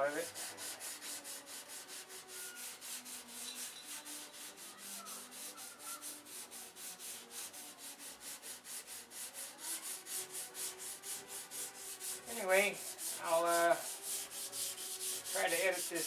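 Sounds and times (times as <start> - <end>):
sandpaper scratching wood: 0.0 - 16.0.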